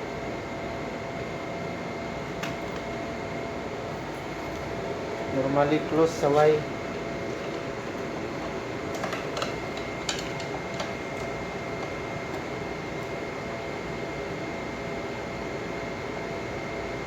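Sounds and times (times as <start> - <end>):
fan-like mechanical hum: 0.0 - 17.0.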